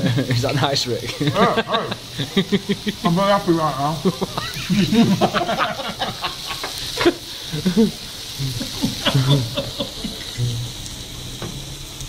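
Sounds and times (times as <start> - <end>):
steady room hiss: 0.0 - 12.0.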